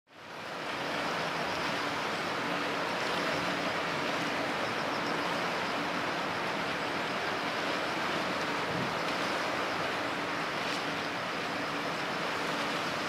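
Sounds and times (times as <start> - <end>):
choppy sea water: 0.1 - 13.0
faint boat engine drone: 0.1 - 13.0.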